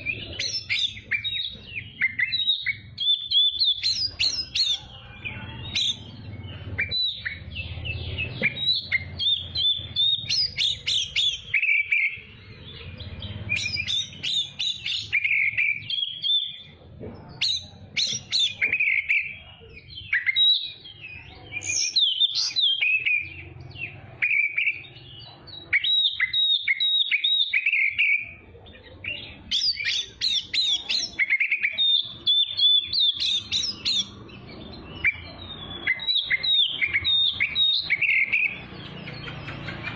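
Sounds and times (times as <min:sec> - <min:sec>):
bird singing chirps and whistles: 0:00.0 - 0:16.8, 0:17.4 - 0:39.9.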